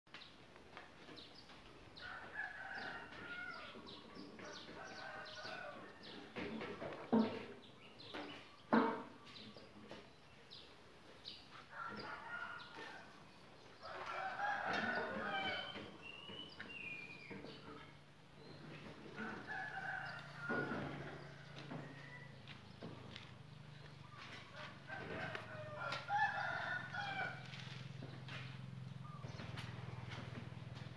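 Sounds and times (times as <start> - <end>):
roosters crowing: 2.0 - 7.5, 11.4 - 30.9.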